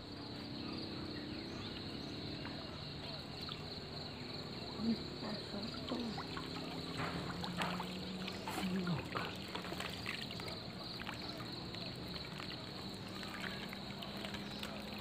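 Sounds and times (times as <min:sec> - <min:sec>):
water splashing and trickling: 0:00.4 - 0:15.0.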